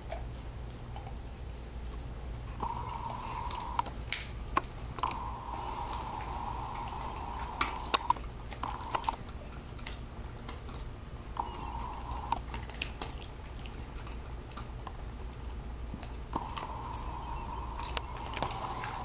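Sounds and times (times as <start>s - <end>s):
dog chewing crunchily: 0.0s - 19.0s.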